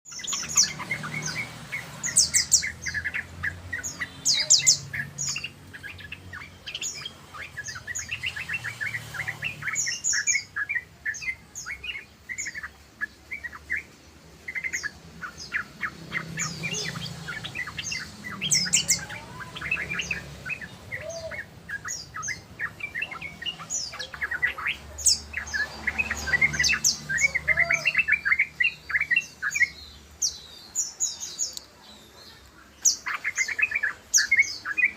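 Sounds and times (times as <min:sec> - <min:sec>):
bulbuls singing chattering runs: 0:00.1 - 0:34.9.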